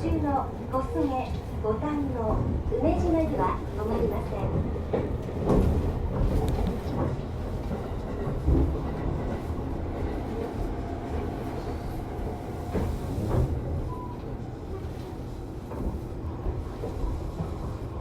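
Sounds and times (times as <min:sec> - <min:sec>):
train interior rumble: 0:00.0 - 0:18.0.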